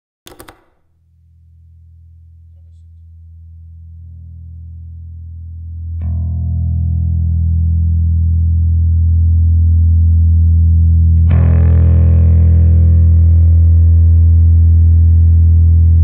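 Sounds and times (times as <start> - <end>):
electric bass guitar notes: 1.0 - 16.0
distorted bass note: 1.2 - 16.0.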